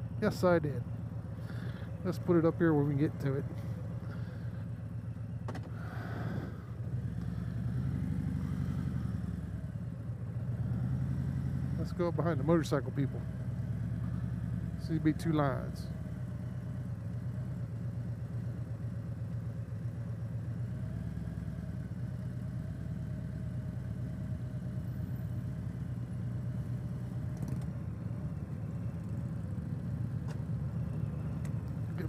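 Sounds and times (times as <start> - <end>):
motorcycle engine idling: 0.0 - 10.7, 11.3 - 32.0.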